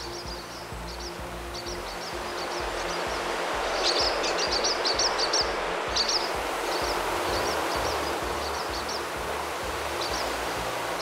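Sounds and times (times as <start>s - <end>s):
starlings chirping: 0.0s - 11.0s.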